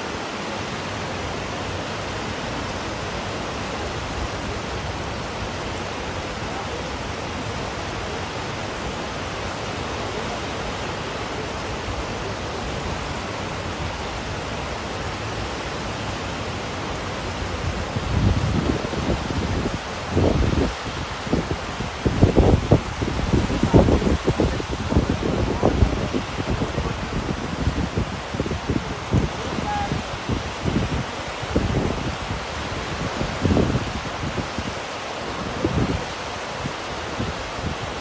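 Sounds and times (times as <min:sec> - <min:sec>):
waterfall and creek water rushing: 0:00.0 - 0:38.0.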